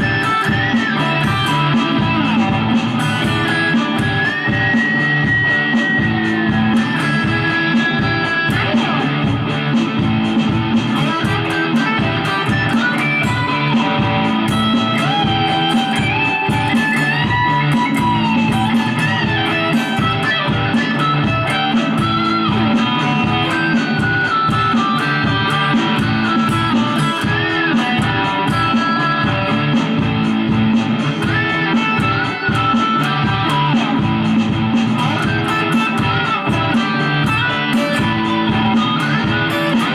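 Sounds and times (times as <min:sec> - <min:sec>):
backing track with drum beat: 0:00.0 - 0:39.9
electric guitar lead lines: 0:00.0 - 0:39.9.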